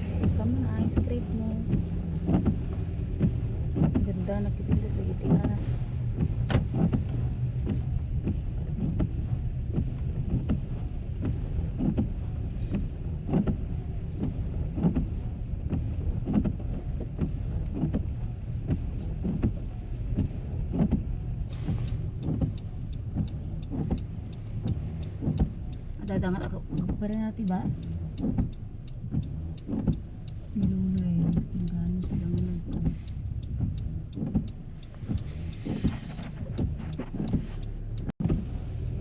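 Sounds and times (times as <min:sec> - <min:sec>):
car cabin rumble: 0:00.0 - 0:39.0.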